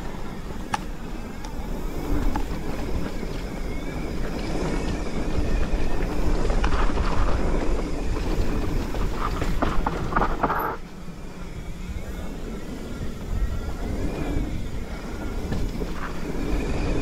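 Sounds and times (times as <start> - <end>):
bike clicks and rattles: 0.0 - 17.0
bike tyres rolling on dirt: 0.0 - 17.0
wind on microphone: 0.0 - 17.0.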